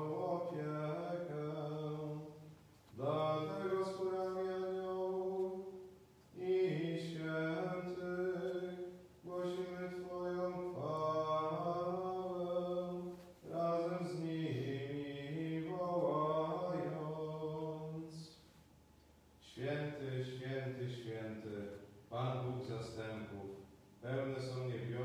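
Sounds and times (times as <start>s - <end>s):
man chanting: 0.0s - 5.8s, 6.4s - 18.4s, 19.4s - 25.0s.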